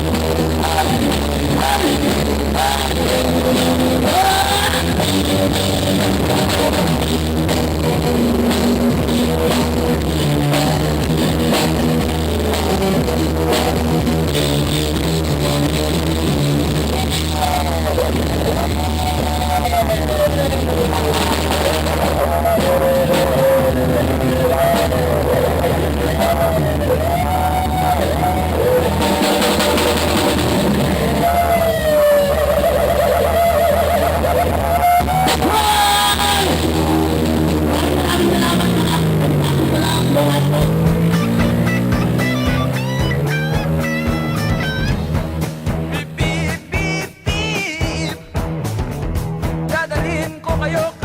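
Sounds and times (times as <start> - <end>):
rock band music: 0.0 - 51.0.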